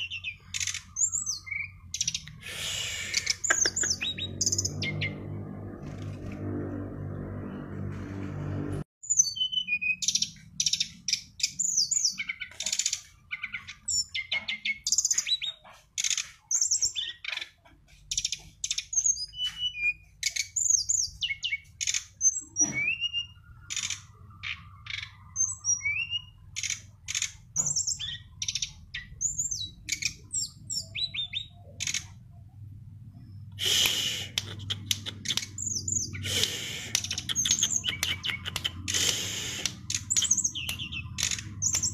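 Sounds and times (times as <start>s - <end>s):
songbird singing: 0.0s - 6.0s, 9.0s - 41.9s.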